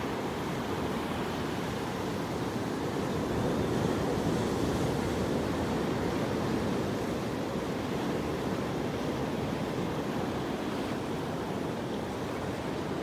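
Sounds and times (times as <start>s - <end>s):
ocean waves breaking on rocks: 0.0s - 13.0s.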